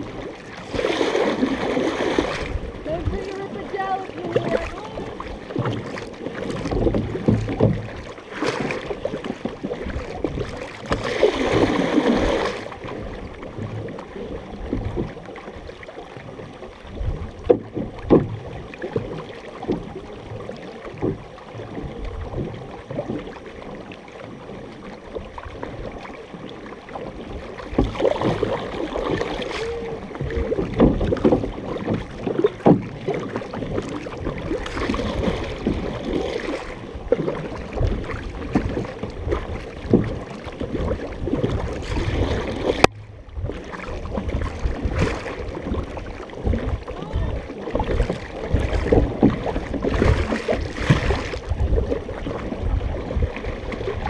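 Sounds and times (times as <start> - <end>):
paddles dipping in water: 0.0 - 54.0
water rushing along hull: 0.0 - 54.0.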